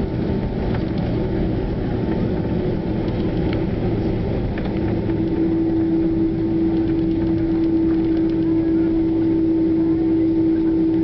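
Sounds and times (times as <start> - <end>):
jet engine drone and rumble: 0.0 - 11.0
steady hum tone: 0.0 - 11.0.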